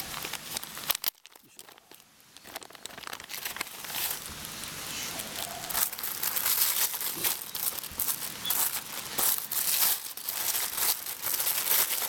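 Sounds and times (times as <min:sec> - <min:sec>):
plastic bag and paper crinkling: 0:00.0 - 0:12.0.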